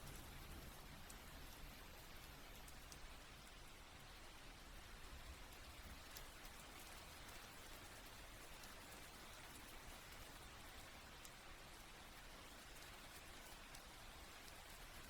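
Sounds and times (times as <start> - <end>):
light rain drop ticks: 0.0 - 15.0
soft steady rain: 0.0 - 15.0.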